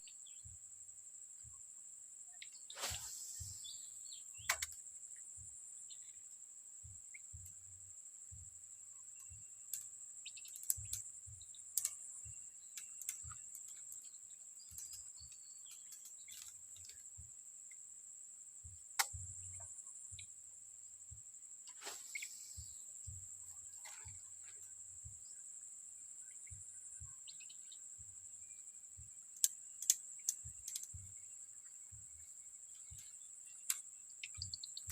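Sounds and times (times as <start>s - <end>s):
bird chirps: 0.0s - 0.8s, 2.3s - 17.8s, 21.1s - 34.9s.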